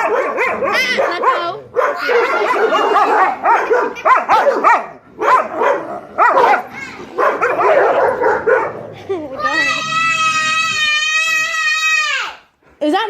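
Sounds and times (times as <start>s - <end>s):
dogs barking and yipping: 0.0s - 11.4s.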